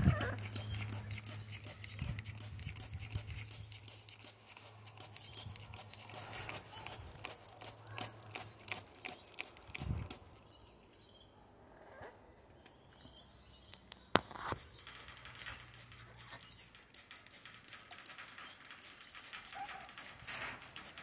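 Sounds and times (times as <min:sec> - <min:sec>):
mist spray pattering and dripping: 0:00.0 - 0:10.3, 0:14.4 - 0:21.0.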